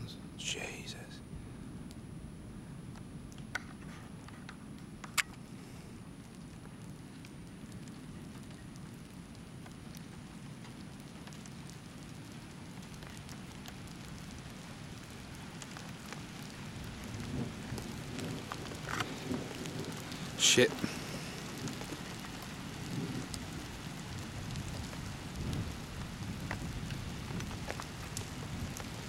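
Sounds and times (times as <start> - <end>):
rain falling: 1.7 - 29.0
sharp taps of rain: 2.9 - 5.5, 6.1 - 29.0.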